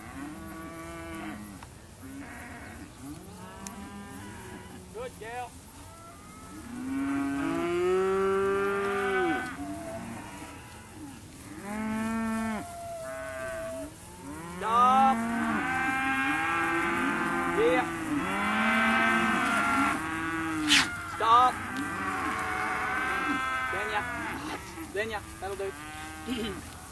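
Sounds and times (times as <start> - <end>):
calves bawling: 0.0 - 26.9.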